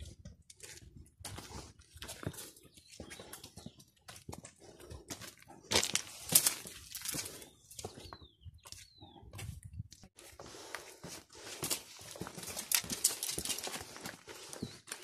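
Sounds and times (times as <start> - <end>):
footsteps on gravel: 0.0 - 9.6, 10.2 - 15.0.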